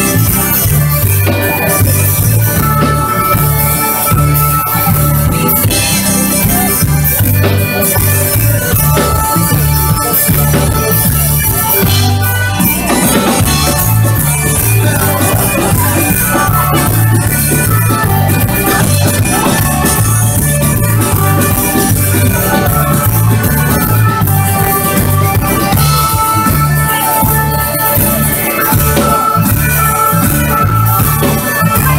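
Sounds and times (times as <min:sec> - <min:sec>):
accordions: 0:00.0 - 0:31.9
drum kit beat: 0:00.0 - 0:31.9
live folk band playing: 0:00.0 - 0:31.9.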